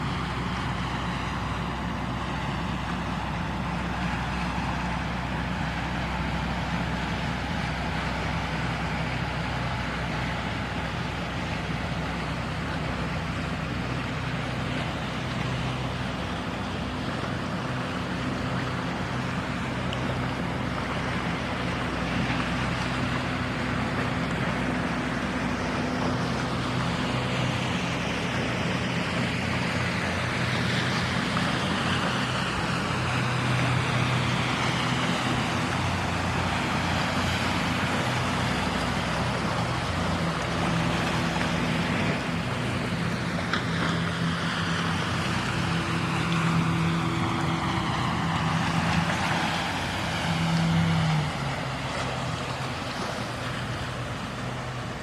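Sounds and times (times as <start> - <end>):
motor running with low hum: 0.0 - 55.0.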